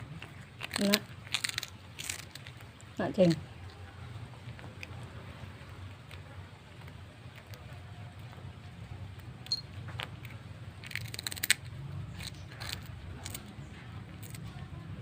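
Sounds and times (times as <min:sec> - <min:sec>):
cat crunching snack: 0:00.0 - 0:15.0.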